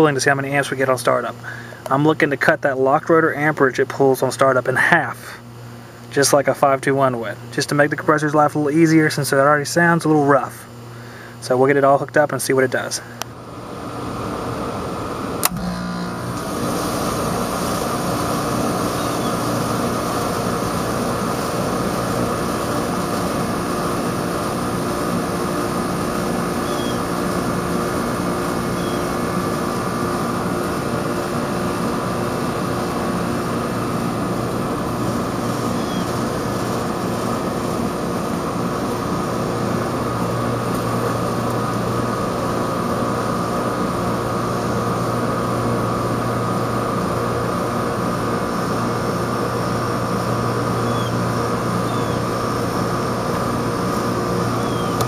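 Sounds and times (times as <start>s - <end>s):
air conditioner compressor humming: 0.0s - 55.0s.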